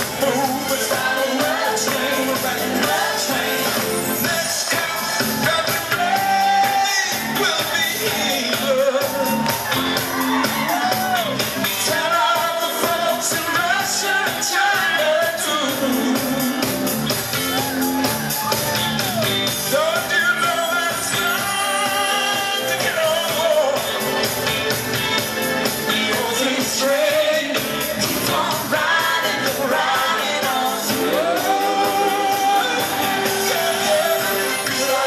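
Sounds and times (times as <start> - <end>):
man singing into a microphone: 0.0 - 9.5, 10.8 - 16.8, 19.5 - 24.0, 25.8 - 35.0
live pop band: 0.0 - 35.0.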